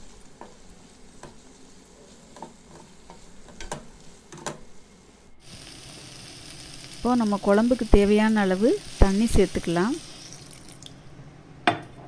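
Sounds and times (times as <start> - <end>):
faint sizzle: 0.0 - 11.6.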